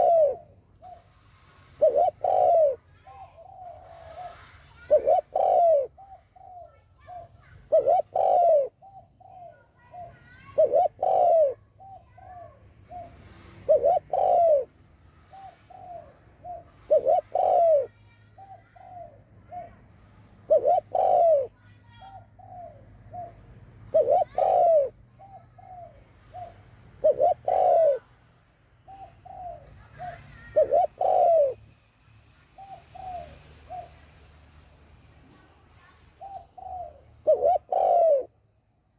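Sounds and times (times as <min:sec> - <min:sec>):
dove cooing: 0:00.0 - 0:28.1, 0:28.8 - 0:31.6, 0:32.4 - 0:34.1, 0:36.2 - 0:38.4.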